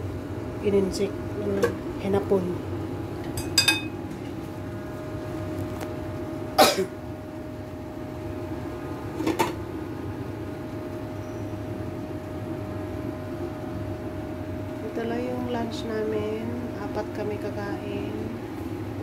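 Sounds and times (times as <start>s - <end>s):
faint steady whine: 0.0s - 19.0s
low kitchen hum: 0.0s - 19.0s.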